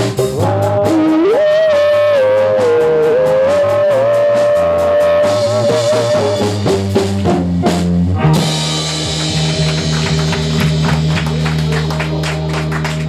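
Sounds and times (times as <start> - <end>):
live pop band playing: 0.0 - 13.0.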